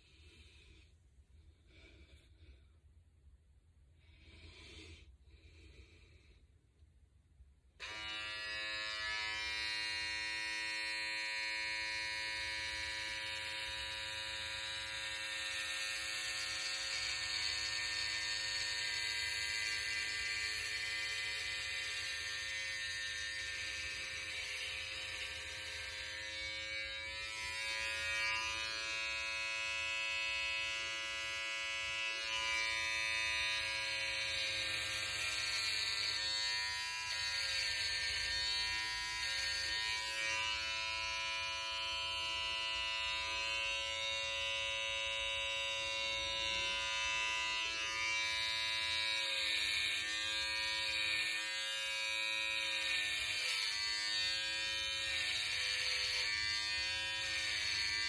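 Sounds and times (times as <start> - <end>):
electric hair clipper buzzing: 7.8 - 58.0.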